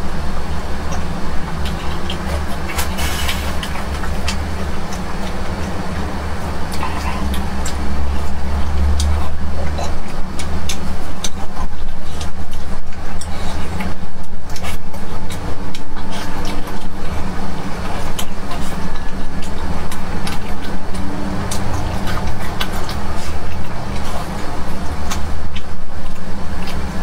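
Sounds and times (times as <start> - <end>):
steady low hum: 0.0 - 27.0
wet chewing: 0.0 - 27.0
lip smacks: 0.2 - 27.0.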